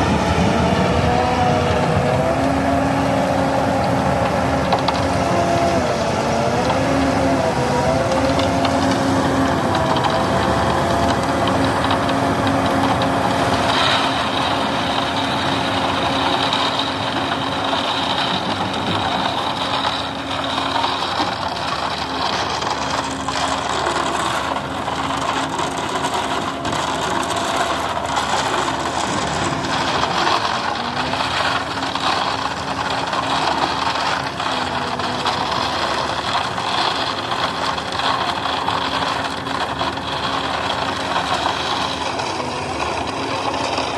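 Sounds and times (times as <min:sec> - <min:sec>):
diesel construction machine running: 0:00.0 - 0:43.9
rattling: 0:08.1 - 0:43.9.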